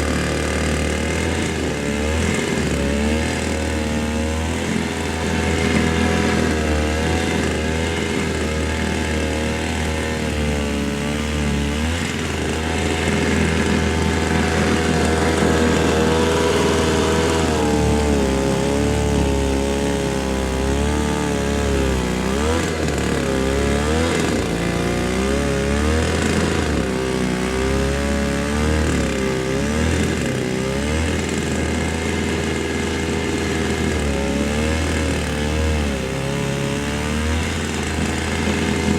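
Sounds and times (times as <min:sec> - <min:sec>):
snow thrower engine running: 0:00.0 - 0:38.9.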